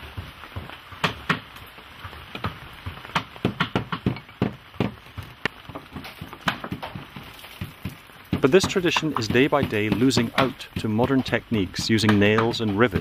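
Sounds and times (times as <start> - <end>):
taps and knocks on wooden hull: 0.1 - 13.0.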